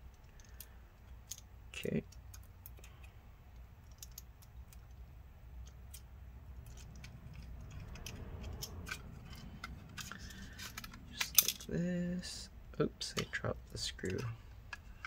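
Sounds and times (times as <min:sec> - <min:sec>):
soft handling rumble: 0:00.0 - 0:15.0.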